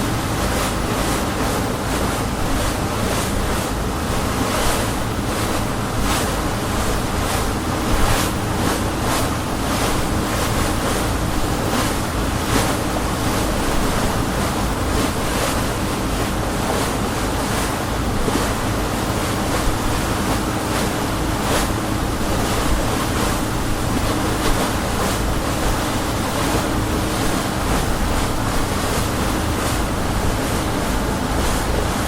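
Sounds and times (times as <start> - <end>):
motor boat engine drone: 0.0 - 32.0
rushing water and wind: 0.0 - 32.0
water splashes: 0.0 - 32.0.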